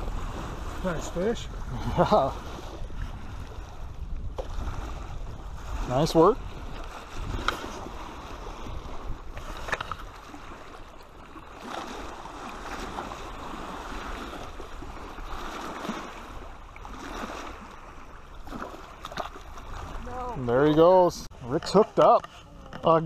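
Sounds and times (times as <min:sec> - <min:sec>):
wind on microphone: 0:00.0 - 0:21.5
waves lapping against rocks: 0:00.0 - 0:23.0.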